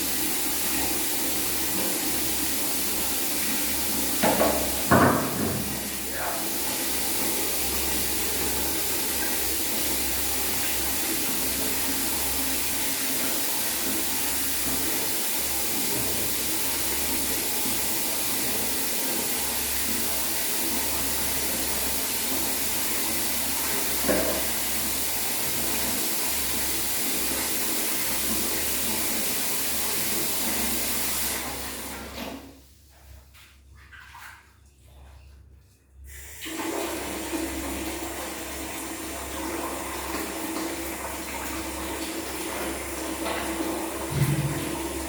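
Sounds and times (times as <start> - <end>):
water running from a tap: 0.0 - 32.6, 36.0 - 45.0.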